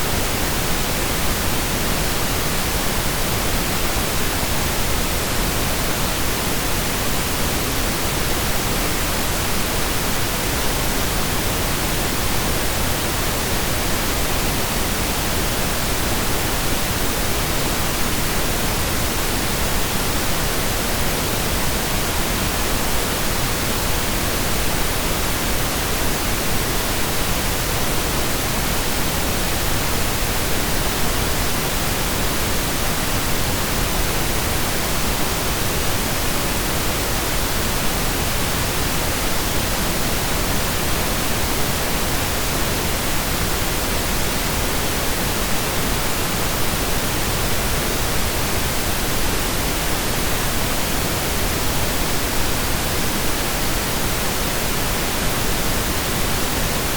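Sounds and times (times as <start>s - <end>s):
pink noise hiss: 0.0s - 56.9s.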